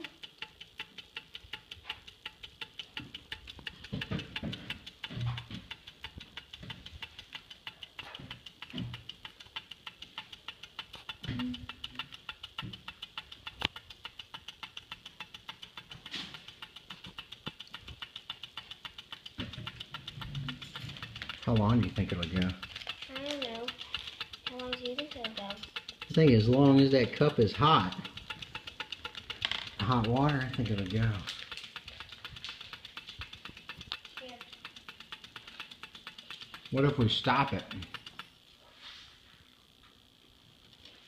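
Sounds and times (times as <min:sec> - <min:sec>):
small engine rapid ticking: 0:00.0 - 0:38.6.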